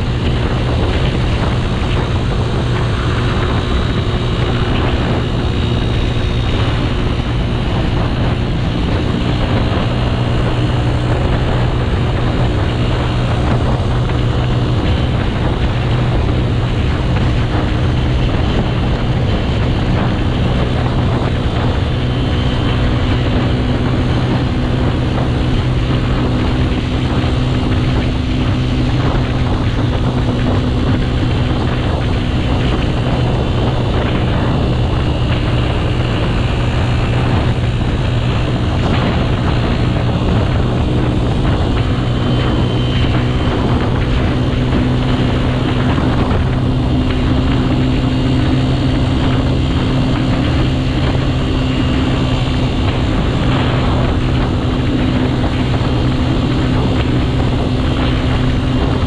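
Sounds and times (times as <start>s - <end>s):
motorcycle engine droning: 0.0s - 59.0s
wind rushing past microphone: 0.0s - 59.0s.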